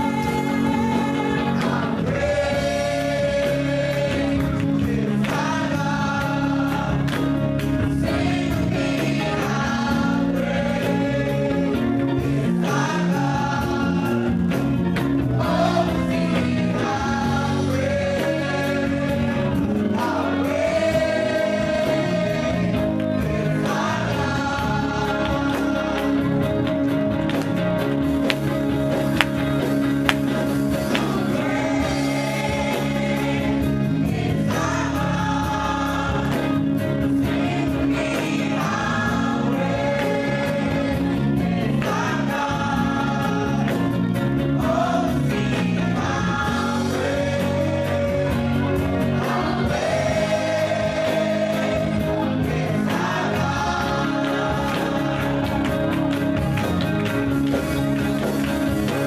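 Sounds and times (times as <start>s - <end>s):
choir singing gospel: 0.0s - 59.0s
electric guitar: 0.0s - 59.0s.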